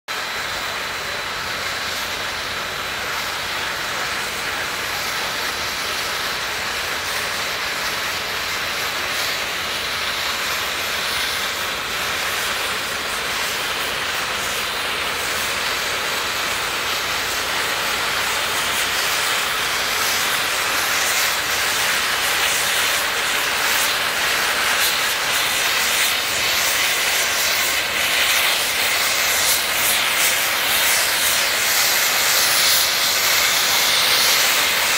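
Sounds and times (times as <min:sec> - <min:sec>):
steam locomotive hissing steam: 0:00.1 - 0:34.9.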